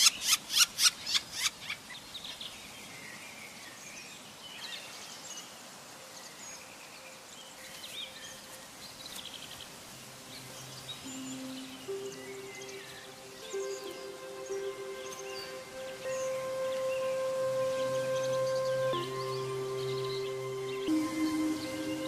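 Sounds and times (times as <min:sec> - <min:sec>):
small birds chirping: 0:00.0 - 0:22.0
steady background hiss: 0:00.0 - 0:22.0.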